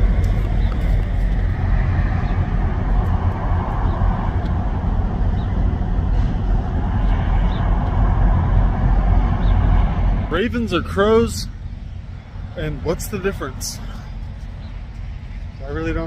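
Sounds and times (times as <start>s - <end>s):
truck engines idling: 0.0s - 16.0s.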